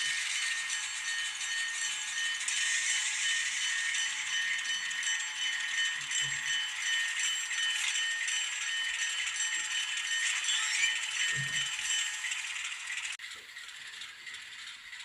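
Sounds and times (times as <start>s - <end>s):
thin high-pitched model train sound: 0.0s - 15.0s.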